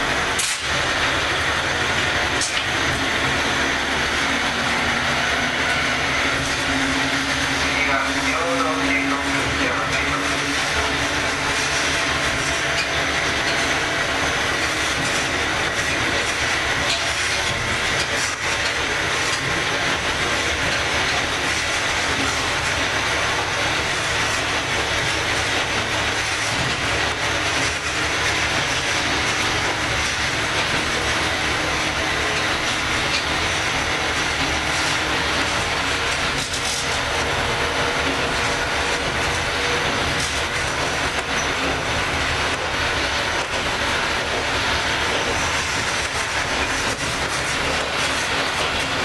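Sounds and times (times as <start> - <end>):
diesel engine drone: 0.0 - 49.0
train wheels clattering on rails: 0.0 - 49.0.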